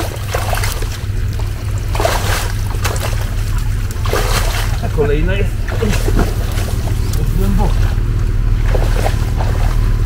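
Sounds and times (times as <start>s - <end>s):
branches dragged through water: 0.0s - 10.0s
muddy water splashing: 0.0s - 10.0s
off-road vehicle engine idling: 0.0s - 10.0s.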